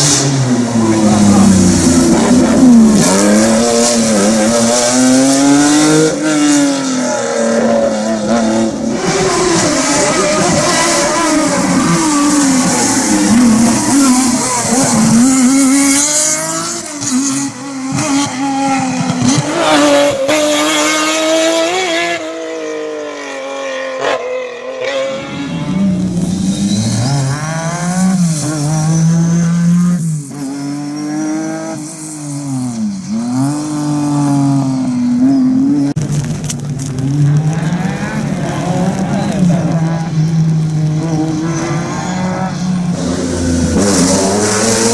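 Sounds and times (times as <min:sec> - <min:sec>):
rally car engine at full throttle: 0:00.0 - 0:44.9.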